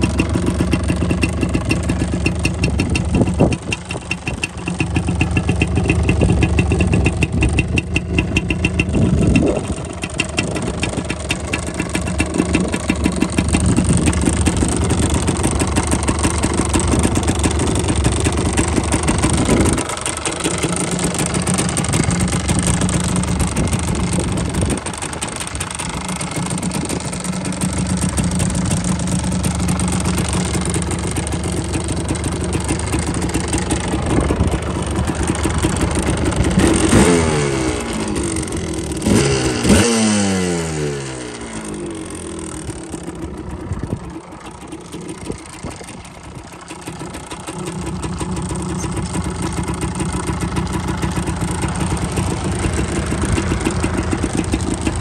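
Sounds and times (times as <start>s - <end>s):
two-stroke engine idling and revving: 0.0s - 55.0s.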